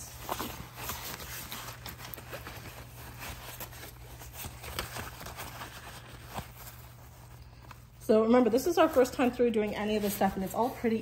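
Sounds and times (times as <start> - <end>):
fabric rustling: 0.0 - 11.0.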